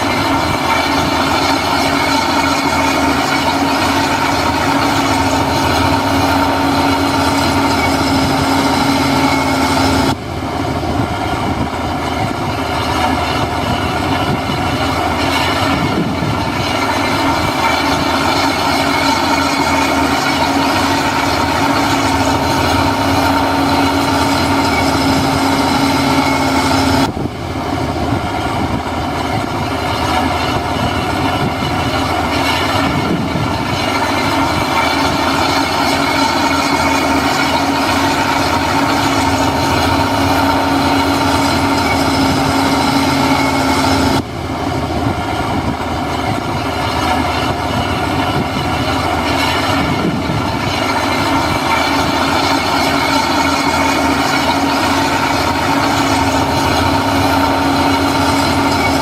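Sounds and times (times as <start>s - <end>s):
diesel earthmoving machinery: 0.0s - 59.0s.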